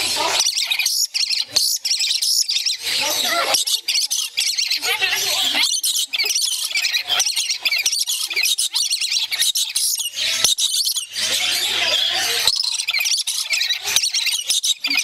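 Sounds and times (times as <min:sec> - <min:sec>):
parrots screeching and chattering: 0:00.0 - 0:15.0.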